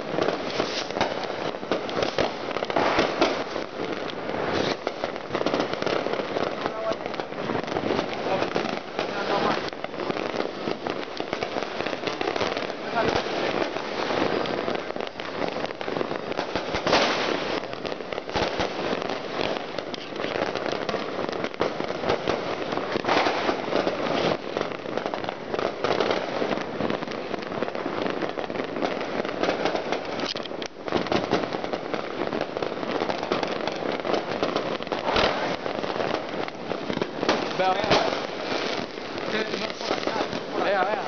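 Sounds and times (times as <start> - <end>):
firecrackers crackling: 0.0 - 41.0
loud firework bangs: 0.0 - 41.0.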